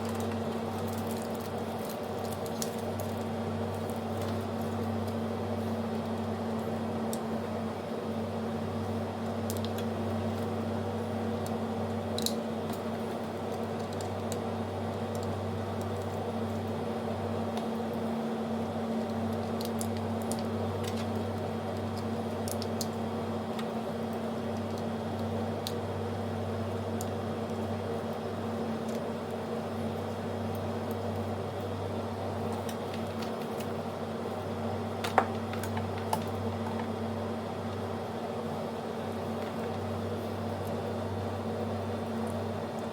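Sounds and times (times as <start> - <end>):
steady mechanical hum: 0.0 - 42.9.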